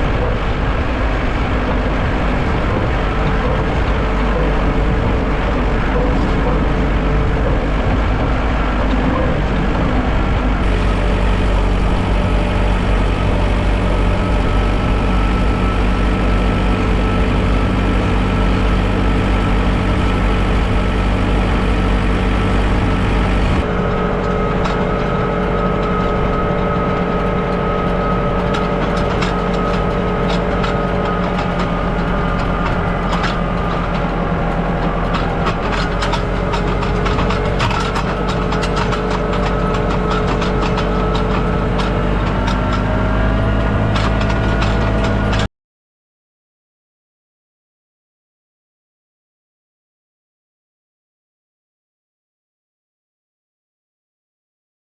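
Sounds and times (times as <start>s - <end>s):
tractor engine running: 0.0s - 45.5s.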